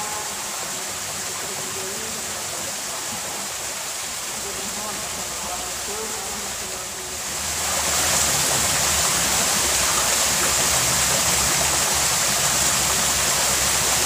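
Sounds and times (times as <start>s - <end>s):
stream rushing over stones: 0.0s - 14.0s.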